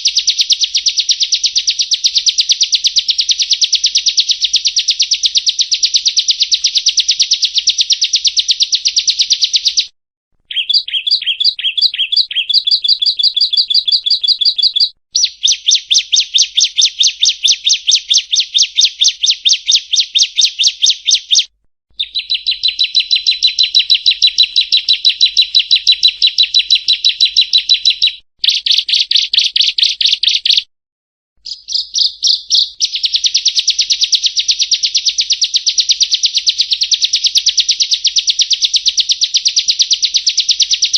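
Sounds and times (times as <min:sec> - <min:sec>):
bird rapid shrill chirps: 0:00.0 - 0:09.9, 0:10.5 - 0:30.7, 0:31.4 - 0:40.9.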